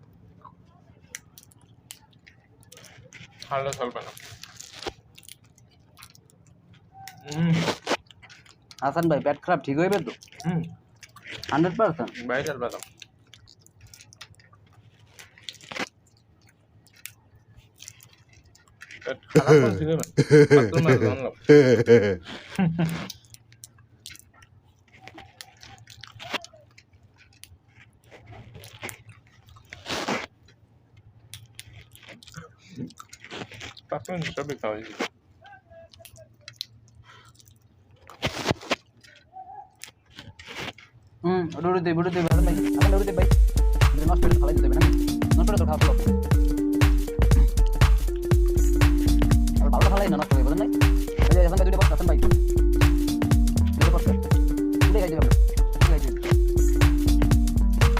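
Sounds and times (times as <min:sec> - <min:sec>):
nuts cracking and crunching: 0:00.0 - 0:20.3, 0:22.2 - 0:57.9
people chewing peanuts: 0:00.0 - 0:57.9.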